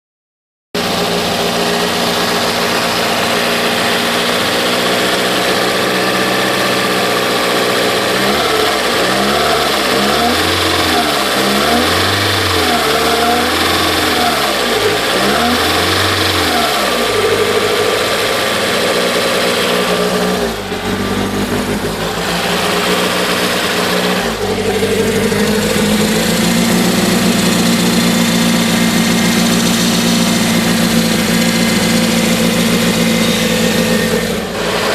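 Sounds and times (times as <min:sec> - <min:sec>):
car engine idling roughly: 0:00.8 - 0:34.9.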